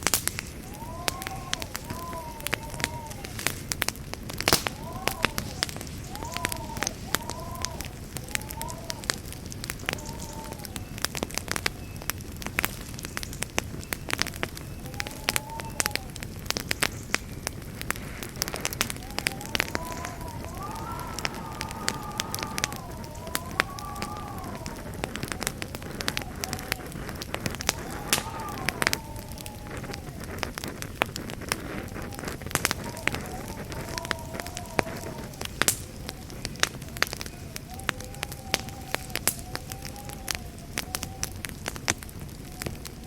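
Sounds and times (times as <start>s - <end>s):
campfire crackling and popping: 0.0s - 43.0s
steady hiss: 0.0s - 43.0s.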